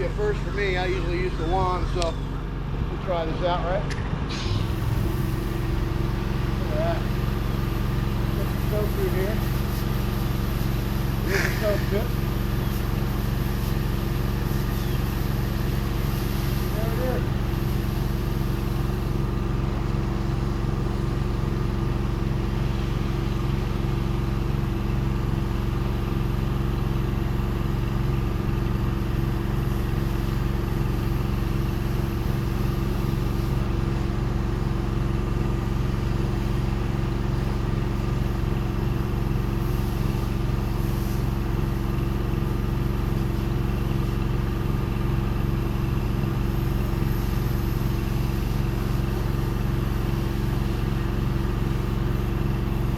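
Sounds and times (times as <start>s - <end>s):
pressure washer engine running: 0.0s - 52.9s.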